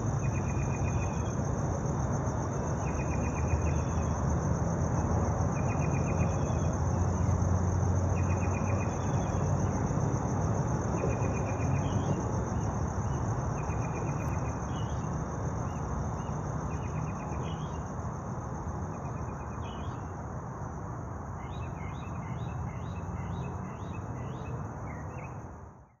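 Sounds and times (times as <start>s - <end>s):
cricket chirping calls: 0.0s - 26.0s
crickets trilling: 0.0s - 26.0s.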